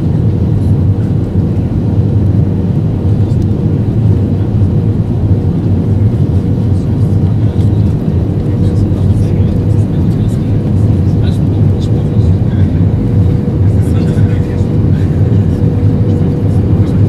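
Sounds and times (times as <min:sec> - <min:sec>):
aircraft engines and airflow rumble: 0:00.0 - 0:17.0.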